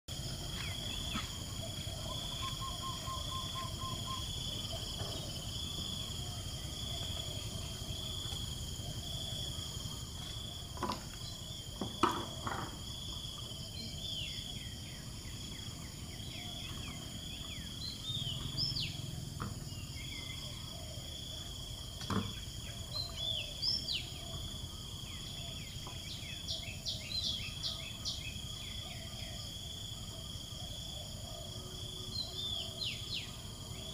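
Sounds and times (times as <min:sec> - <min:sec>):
birds chirping: 0:00.1 - 0:29.5
high insect drone: 0:00.1 - 0:33.9.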